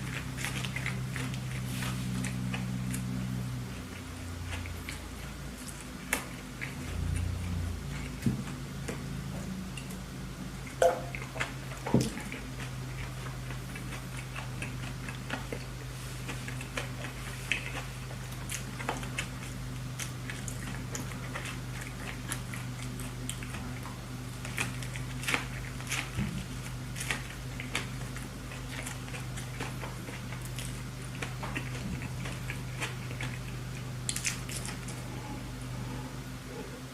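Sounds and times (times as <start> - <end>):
person chewing food: 0.0 - 36.7
low steady hum: 0.0 - 36.9.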